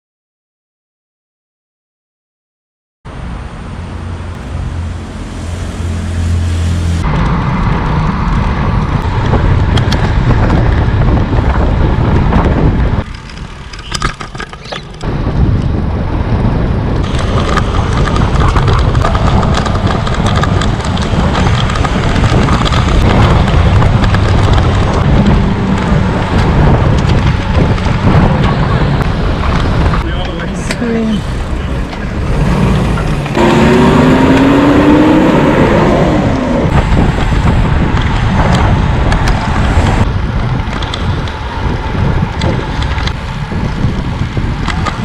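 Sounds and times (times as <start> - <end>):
road and traffic noise: 3.1 - 45.0
wind buffeting microphone: 4.0 - 45.0.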